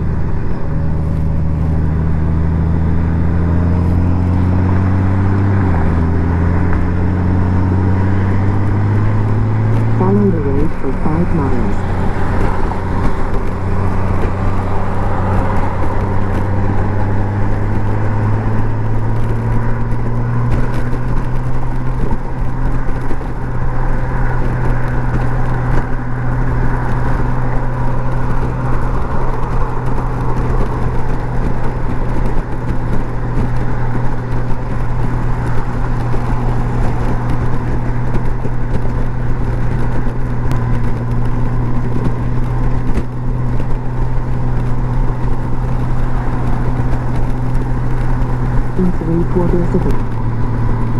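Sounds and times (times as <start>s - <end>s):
motorcycle engine droning: 0.0s - 50.9s
wind and road noise: 0.0s - 50.9s.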